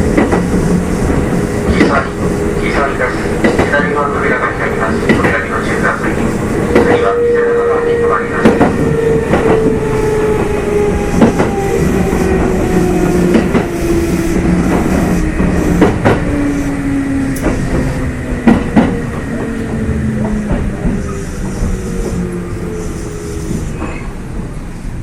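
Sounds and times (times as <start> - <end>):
train running gear rumble: 0.0 - 25.0.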